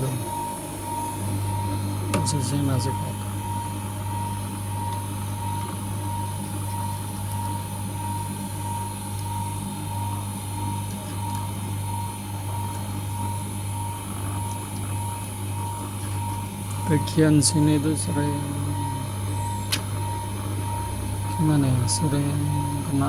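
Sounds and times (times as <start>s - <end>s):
electric machine hum: 0.0s - 23.0s.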